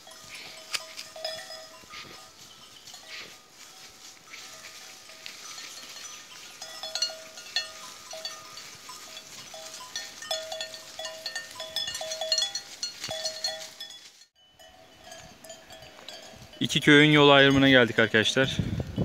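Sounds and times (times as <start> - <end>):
cattle bells clanking: 0.0 - 19.0.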